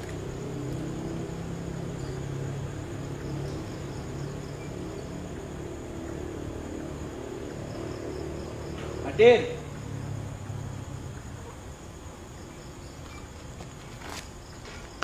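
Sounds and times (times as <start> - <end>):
low drone: 0.0 - 13.0
insects chirping: 0.0 - 15.0.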